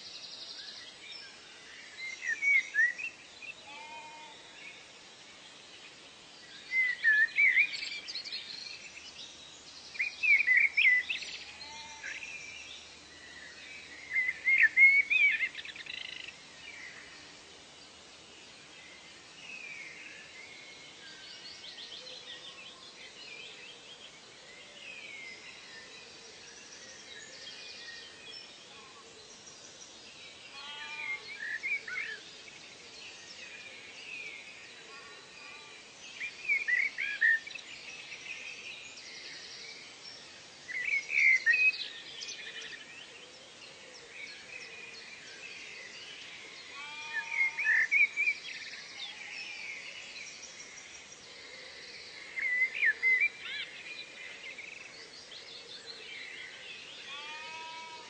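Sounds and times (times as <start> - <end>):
birds singing: 0.0 - 17.4, 18.0 - 58.0
forest ambience hiss: 0.0 - 58.0.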